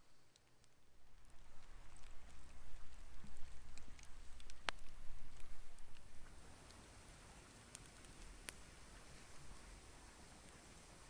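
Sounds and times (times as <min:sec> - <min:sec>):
faint night ambience hiss: 0:00.0 - 0:11.0.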